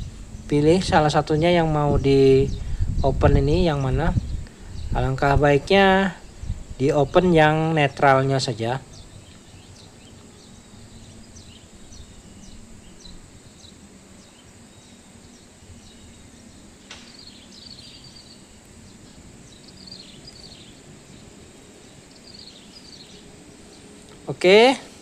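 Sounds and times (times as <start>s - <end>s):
faint outdoor background noise: 0.0s - 25.0s
small birds chirping: 0.0s - 25.0s.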